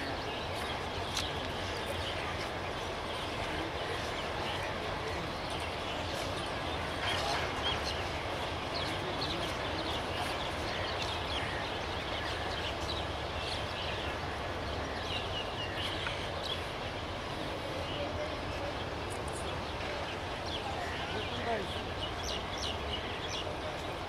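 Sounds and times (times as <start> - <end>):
birds chirping: 0.0 - 24.0
distant train rumble: 0.0 - 24.0.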